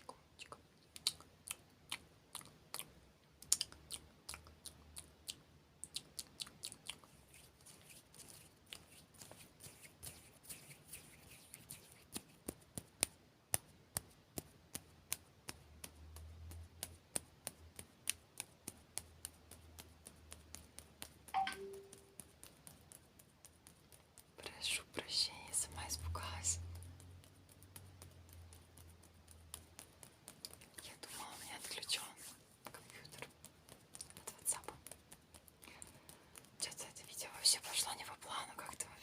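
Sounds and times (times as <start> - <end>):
mouth clicks and smacks: 0.0 - 39.0.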